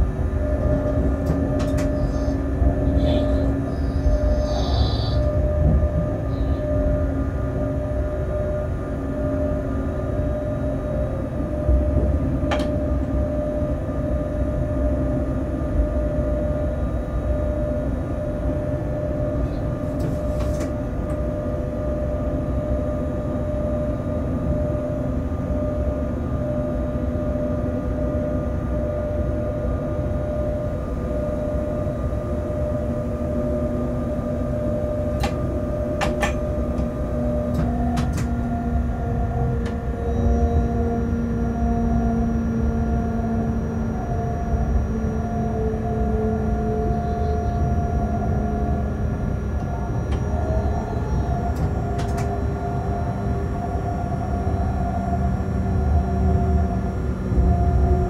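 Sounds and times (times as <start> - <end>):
steady hum tones: 0.0 - 58.0
train running rumble: 0.0 - 58.0.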